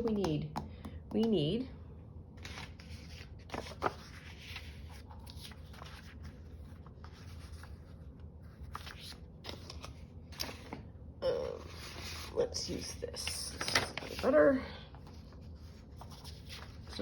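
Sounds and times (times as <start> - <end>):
paper rustling and rubbing: 2.4 - 10.8, 11.4 - 17.0.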